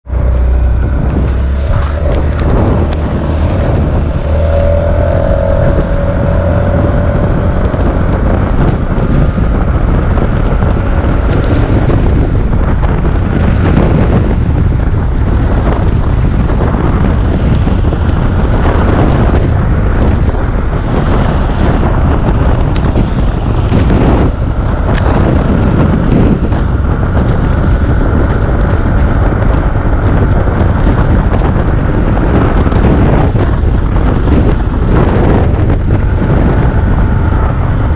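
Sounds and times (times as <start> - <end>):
scooter engine accelerating: 0.0 - 37.9
wind buffeting microphone: 0.0 - 37.9.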